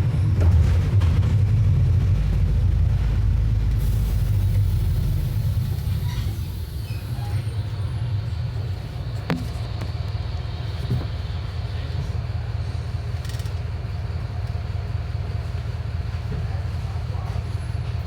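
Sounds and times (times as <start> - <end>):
bus diesel engine rumbling: 0.0 - 18.0.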